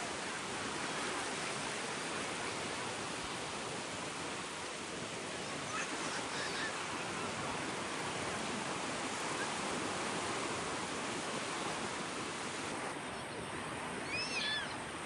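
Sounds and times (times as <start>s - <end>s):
sea waves washing onto beach: 0.0s - 15.0s.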